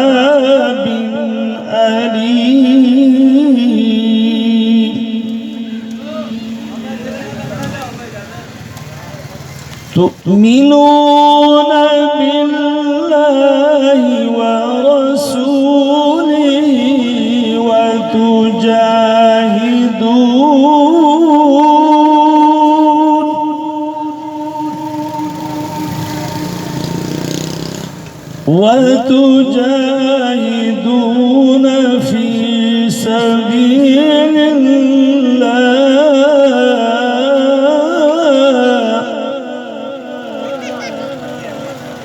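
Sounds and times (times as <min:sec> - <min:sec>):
man reciting melodically over loudspeaker: 0:00.0 - 0:08.7, 0:09.3 - 0:42.0.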